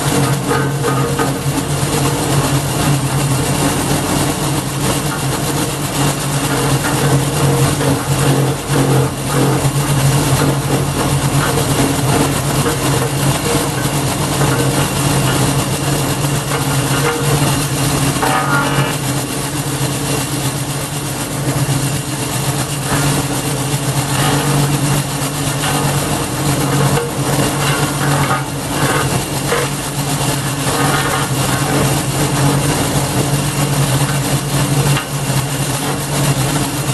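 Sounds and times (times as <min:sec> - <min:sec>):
petrol engine running: 0:00.0 - 0:36.9
wood chipper cracks and rattles: 0:00.0 - 0:36.9.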